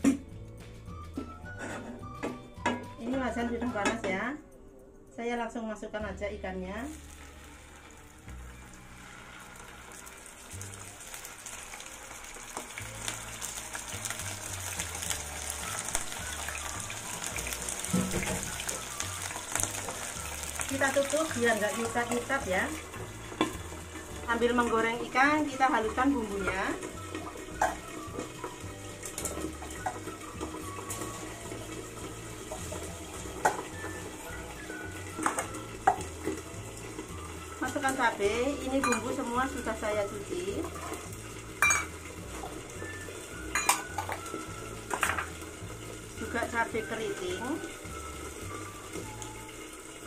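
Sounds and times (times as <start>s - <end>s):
fish sizzling in hot oil: 6.6s - 50.0s.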